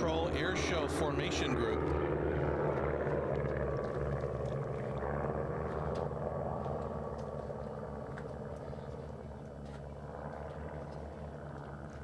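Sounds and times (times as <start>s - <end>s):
propeller planes droning: 0.0s - 12.0s.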